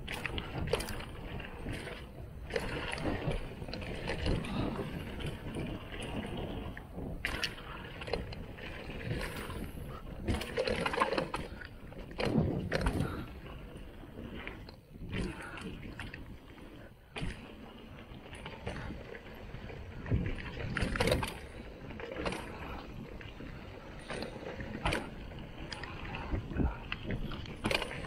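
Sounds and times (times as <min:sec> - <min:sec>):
bike clacking and rattling: 0:00.0 - 0:28.0.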